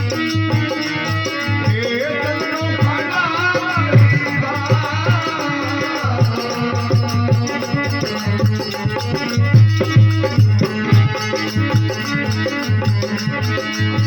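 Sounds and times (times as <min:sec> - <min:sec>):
drum beats: 0:00.0 - 0:14.0
folk devotional music: 0:00.0 - 0:14.0
rattling percussion: 0:00.0 - 0:14.0.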